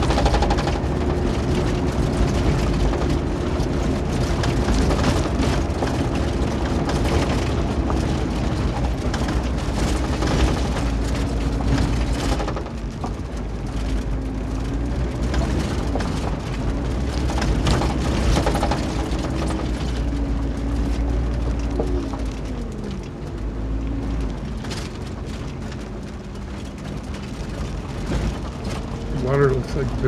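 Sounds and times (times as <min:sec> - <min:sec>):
car engine drone: 0:00.0 - 0:30.0
gravel clicks and rattles: 0:00.0 - 0:30.0.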